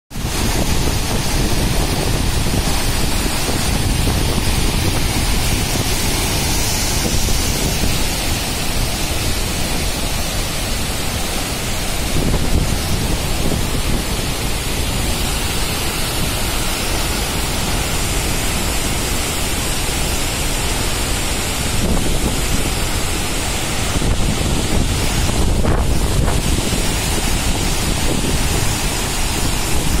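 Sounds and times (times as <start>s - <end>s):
wind buffeting microphone: 0.1s - 20.4s, 21.1s - 30.0s
water roaring from a dam spillway: 0.1s - 30.0s.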